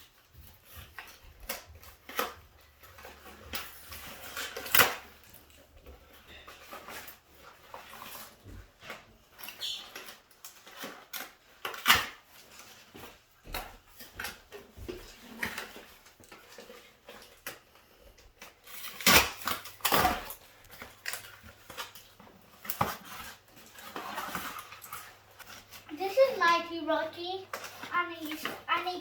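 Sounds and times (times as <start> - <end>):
packaging rustling and clicking: 0.1 - 29.0.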